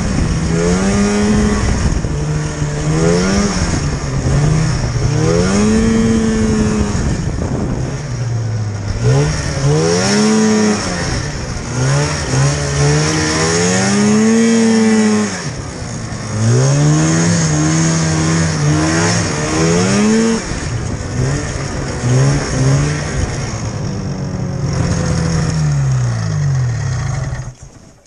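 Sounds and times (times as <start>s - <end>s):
snowmobile engine revving: 0.0s - 27.6s.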